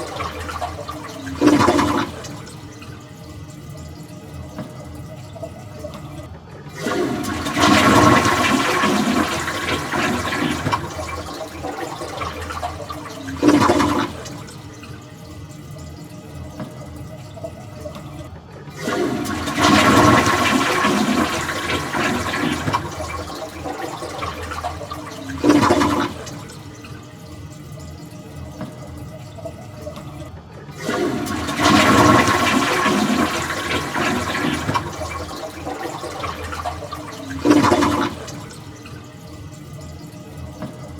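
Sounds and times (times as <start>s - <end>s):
toilet tank refilling hiss: 0.0s - 5.0s, 5.6s - 40.9s
toilet flushing: 0.0s - 40.9s.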